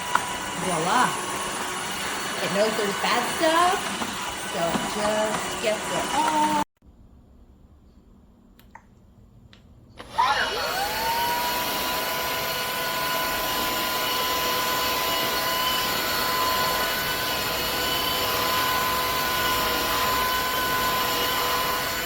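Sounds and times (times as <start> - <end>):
vacuum mop whining: 0.0 - 6.7, 10.0 - 22.0.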